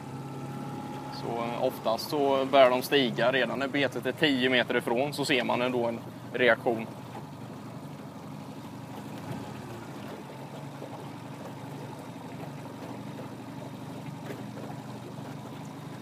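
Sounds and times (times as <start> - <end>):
boat engine low hum: 0.0 - 16.0
water lapping at hull: 0.0 - 16.0.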